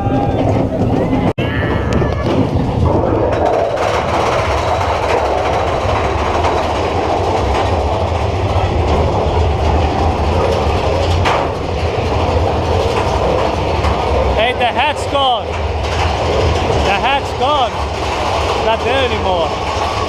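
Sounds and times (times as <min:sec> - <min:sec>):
roller coaster cars rattling: 0:00.0 - 0:20.0.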